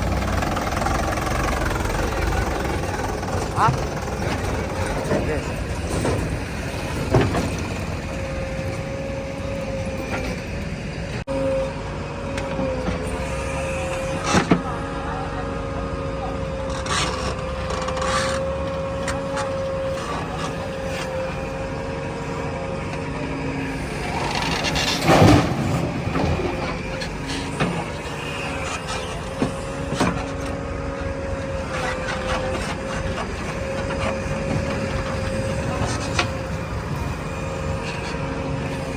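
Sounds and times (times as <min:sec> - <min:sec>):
backhoe loader engine whining: 0:00.0 - 0:38.9.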